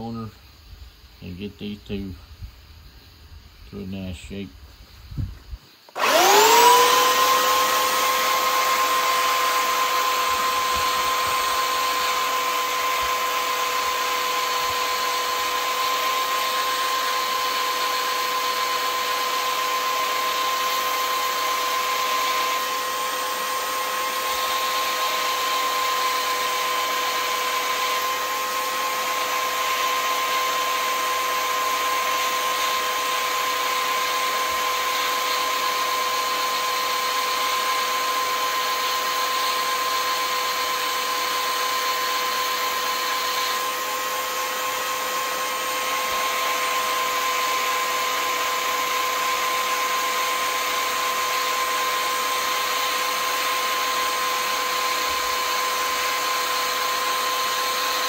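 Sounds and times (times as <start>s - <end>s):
belt sander whining: 5.7s - 58.0s
metal grinding on sander belt: 6.0s - 58.0s.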